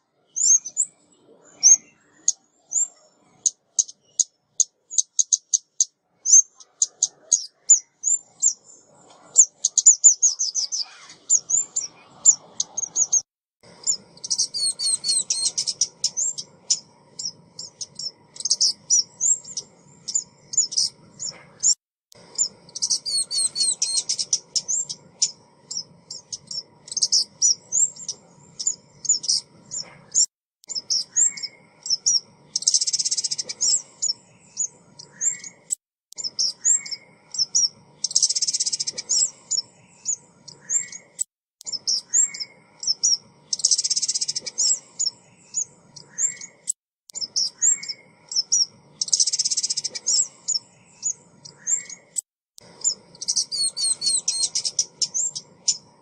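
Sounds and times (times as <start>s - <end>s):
bird chirping and twittering: 0.2s - 56.0s.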